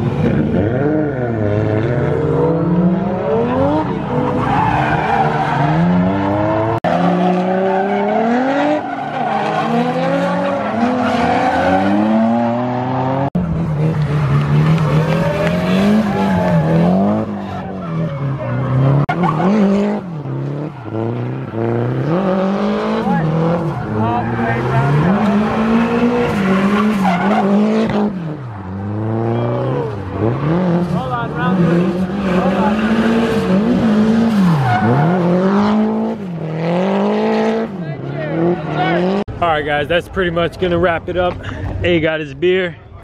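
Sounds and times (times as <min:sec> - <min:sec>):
car engines revving hard: 0:00.0 - 0:39.4.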